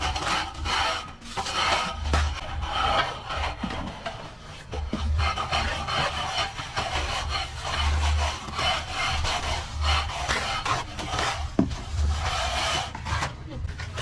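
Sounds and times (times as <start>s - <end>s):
trowel scraping a plastered wall: 0.0s - 14.0s.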